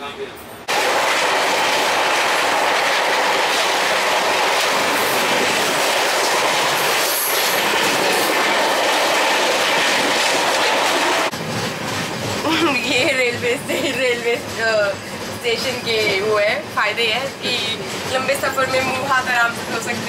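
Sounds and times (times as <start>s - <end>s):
wheel-on-rail noise: 0.6s - 20.0s.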